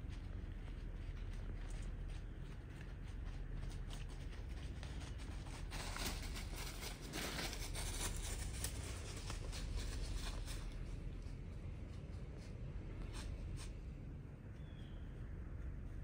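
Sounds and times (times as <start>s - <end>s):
hooves crunching through dry leaves: 0.0s - 13.9s.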